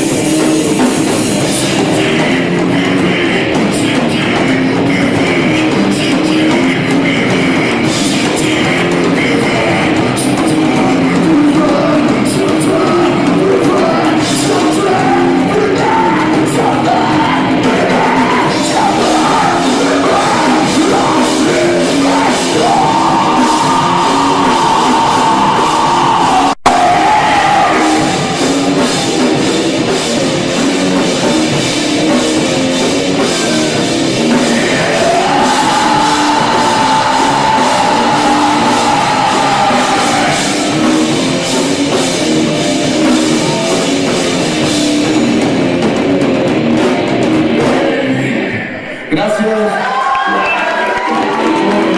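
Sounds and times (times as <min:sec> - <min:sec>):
rock-funk band playing: 0:00.0 - 0:48.6, 0:50.7 - 0:51.9.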